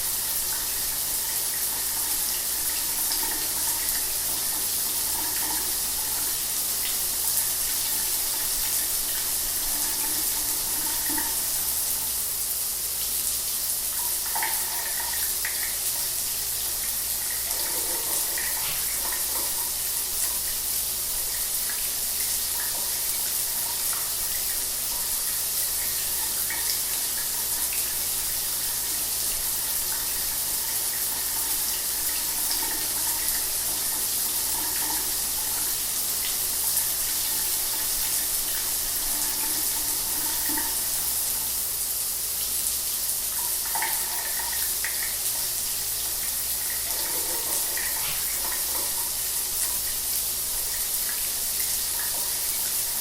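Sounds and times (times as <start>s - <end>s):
shower water running: 0.0s - 53.0s.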